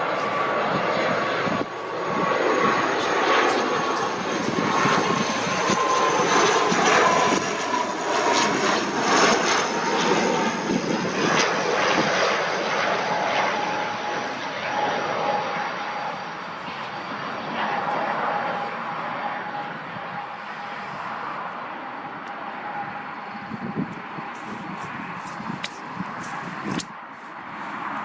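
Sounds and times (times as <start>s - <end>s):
jet airliner engines roaring: 0.0s - 28.0s.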